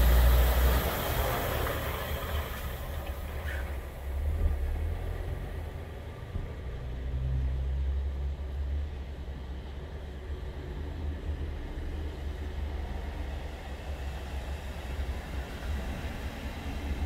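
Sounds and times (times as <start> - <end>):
tyres hissing on wet road: 0.0 - 8.6, 9.4 - 17.0
lorry diesel engines rumbling: 0.0 - 17.0.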